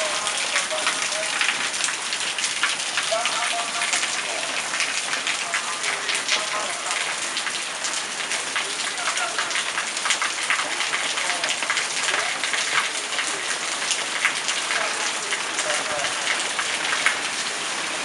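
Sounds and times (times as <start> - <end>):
heavy rain falling: 0.0 - 18.0
raindrops hitting puddles: 0.0 - 18.0.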